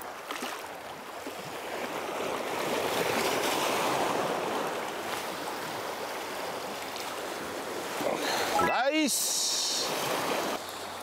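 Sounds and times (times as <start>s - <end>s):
waves washing over rocks: 0.0s - 11.0s.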